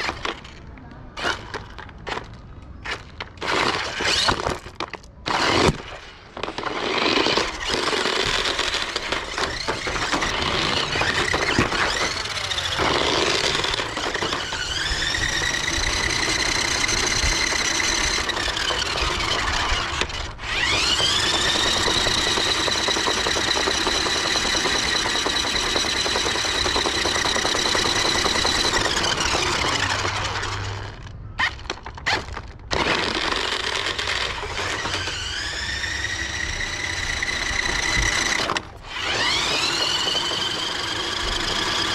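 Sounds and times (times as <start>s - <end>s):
toy car electric motor whining: 1.2s - 41.9s.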